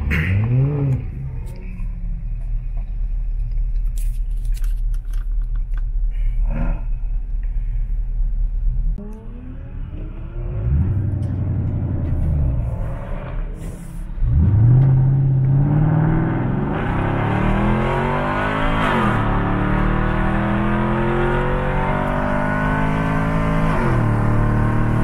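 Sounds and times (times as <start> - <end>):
car engine accelerating: 0.0 - 3.8, 8.8 - 25.0.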